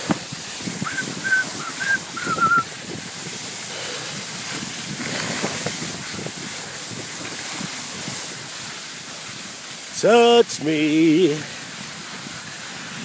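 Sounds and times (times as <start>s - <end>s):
skis hissing on snow: 0.0s - 13.0s
wind on microphone: 0.0s - 13.0s.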